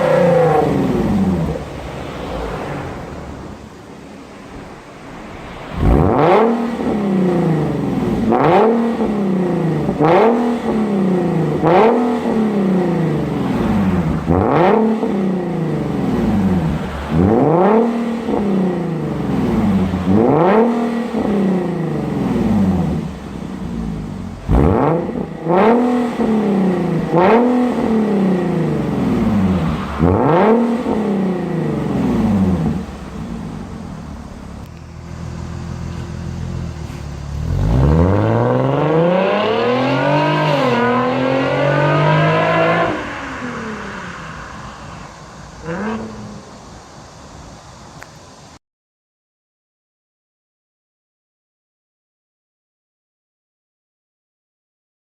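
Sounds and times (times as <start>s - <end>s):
car engine revving: 0.0s - 47.5s.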